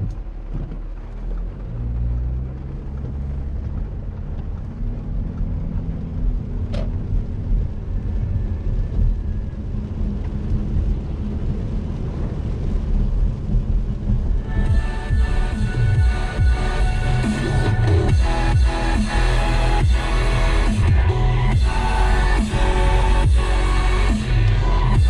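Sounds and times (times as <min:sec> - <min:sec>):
diesel car engine accelerating: 0:00.0 - 0:25.0
tyre noise on wet road: 0:00.0 - 0:25.0.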